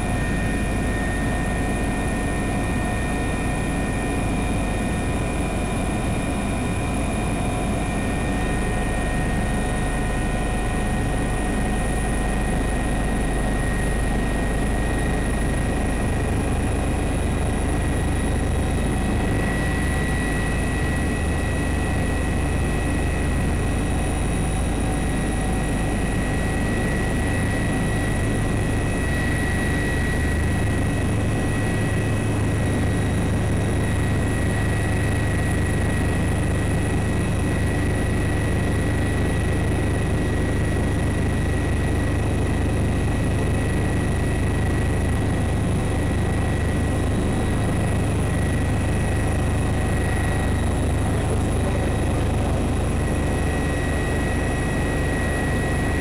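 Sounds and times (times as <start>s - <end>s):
helicopter engine and rotors: 0.0s - 56.0s.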